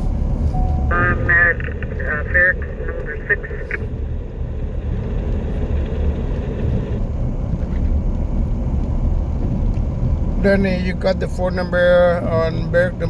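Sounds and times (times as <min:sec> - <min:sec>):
car engine rumble inside cab: 0:00.0 - 0:13.0.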